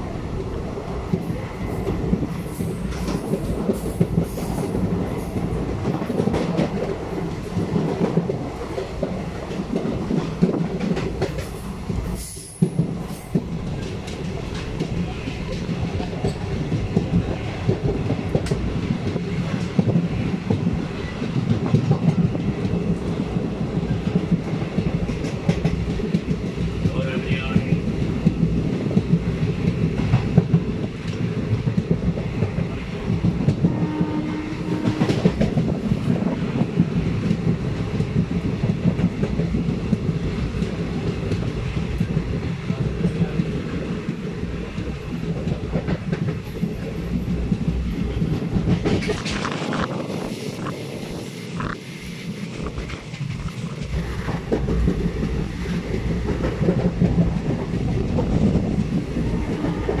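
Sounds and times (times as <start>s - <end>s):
train rumble inside coach: 0.0s - 60.0s.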